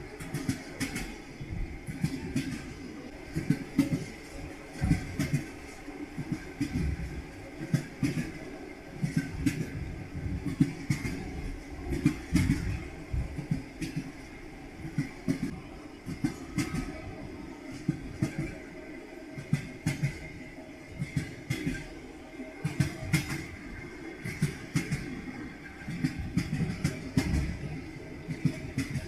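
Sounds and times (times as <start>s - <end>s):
train wheels clacking on rails: 0.0s - 29.0s.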